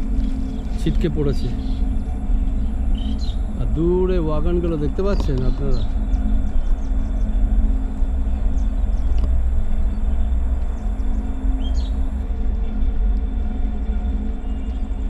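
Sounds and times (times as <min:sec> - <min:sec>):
steady low hum: 0:00.0 - 0:15.0
wind rumbling on microphone: 0:00.0 - 0:15.0.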